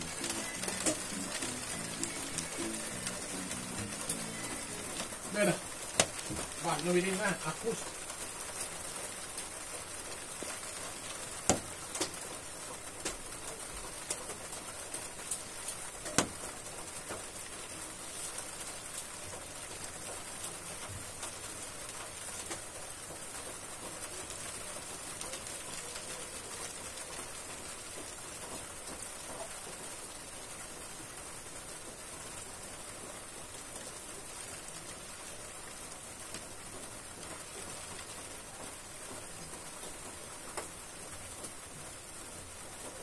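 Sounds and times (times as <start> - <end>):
rain on corrugated roof: 0.0 - 43.0.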